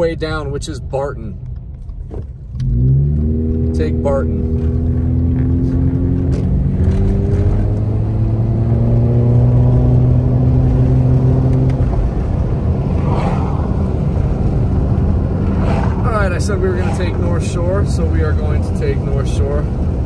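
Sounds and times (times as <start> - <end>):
road noise: 0.0 - 20.0
car engine accelerating: 1.3 - 20.0.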